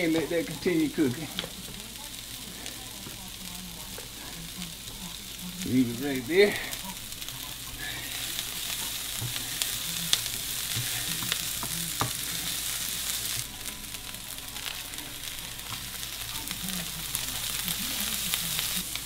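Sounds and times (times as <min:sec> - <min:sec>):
onions sizzling in a skillet: 0:00.0 - 0:19.0
sharp pops of frying: 0:00.0 - 0:19.0.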